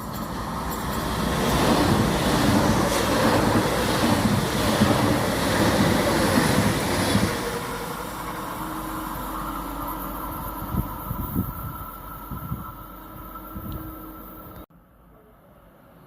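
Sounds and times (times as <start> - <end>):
train rumble: 0.0 - 14.7
high-speed train passing: 0.0 - 16.0.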